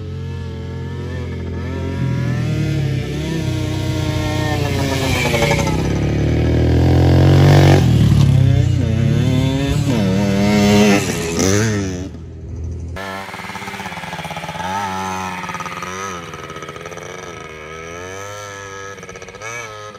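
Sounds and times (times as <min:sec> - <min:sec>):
dirt bike engines revving: 0:00.0 - 0:19.9.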